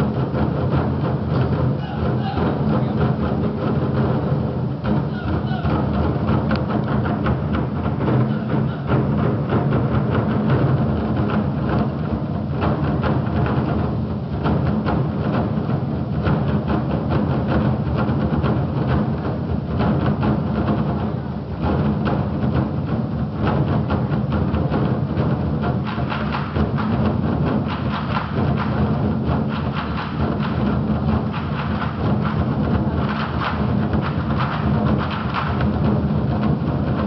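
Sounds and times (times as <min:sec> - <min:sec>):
barrel drums beaten together: 0:00.0 - 0:37.0.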